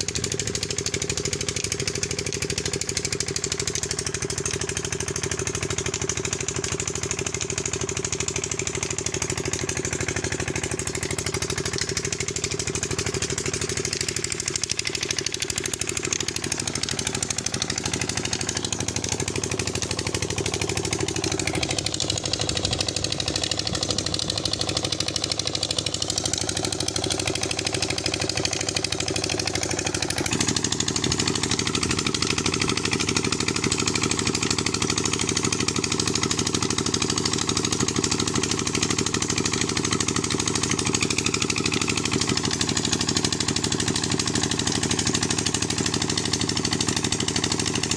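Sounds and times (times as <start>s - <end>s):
diesel engine running pump: 0.0s - 47.9s.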